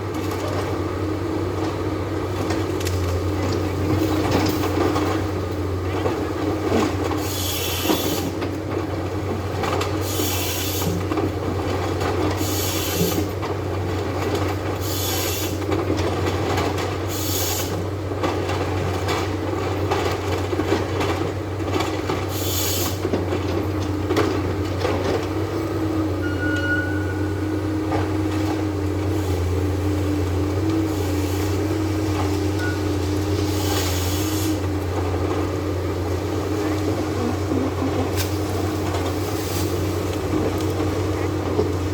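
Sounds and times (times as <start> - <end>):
harvester engine hum: 0.0 - 41.9.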